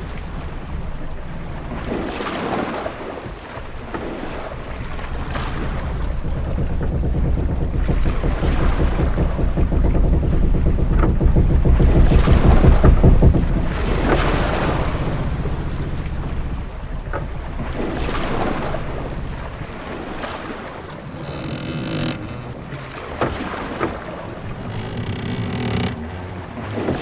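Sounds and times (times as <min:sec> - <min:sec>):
deep rumble: 0:00.0 - 0:27.0
sharp knocks: 0:00.0 - 0:27.0
waves washing against ship: 0:00.0 - 0:27.0
high-pitched creak: 0:04.0 - 0:27.0.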